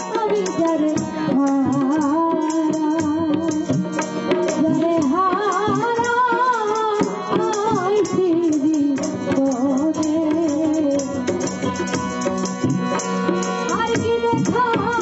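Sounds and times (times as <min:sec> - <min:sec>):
accompanying instruments: 0:00.0 - 0:15.0
hand drum percussion: 0:00.0 - 0:15.0.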